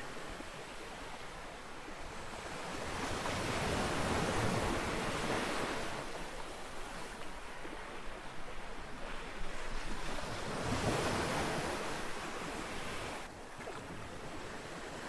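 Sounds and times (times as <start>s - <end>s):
ocean waves on beach: 0.0s - 15.0s.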